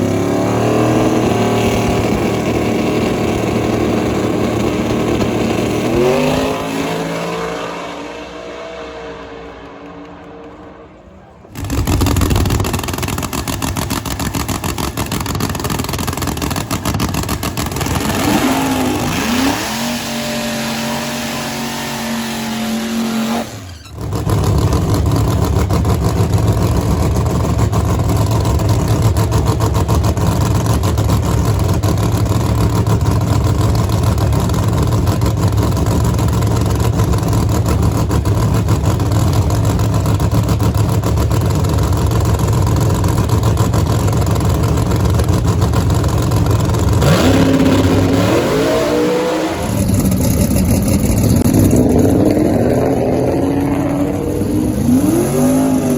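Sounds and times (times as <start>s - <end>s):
drag race car engine: 0.0s - 55.9s.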